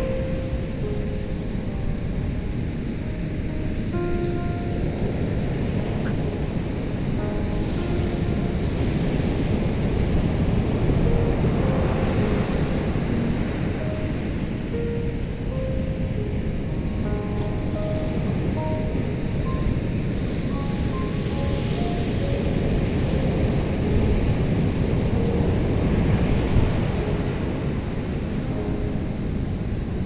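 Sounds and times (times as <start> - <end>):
ocean surf washing on shore: 0.0 - 30.0
soft melody of single notes: 0.0 - 30.0.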